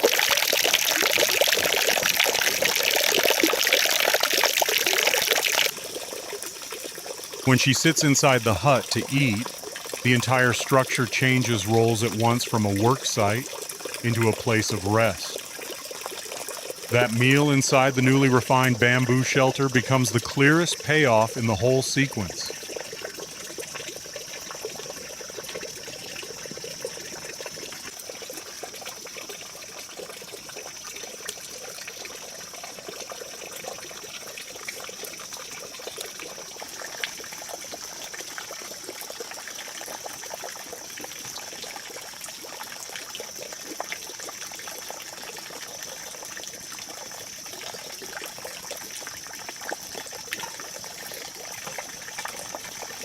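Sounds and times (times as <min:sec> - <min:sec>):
running water trickling: 0:00.0 - 0:53.0.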